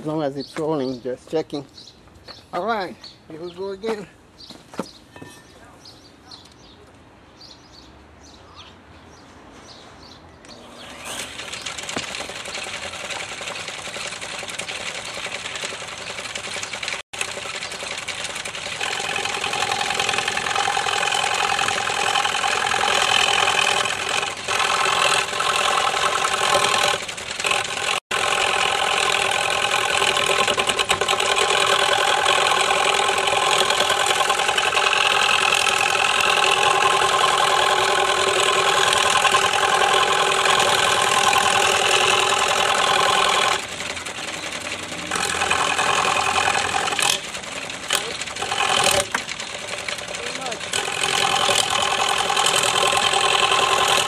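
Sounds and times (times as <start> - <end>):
turning tool cutting wood: 10.5 - 54.0
wood lathe motor whine: 10.6 - 54.0.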